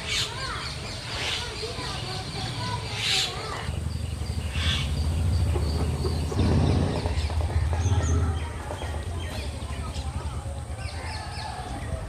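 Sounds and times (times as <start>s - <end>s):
birds calling and chirping: 0.0s - 12.0s.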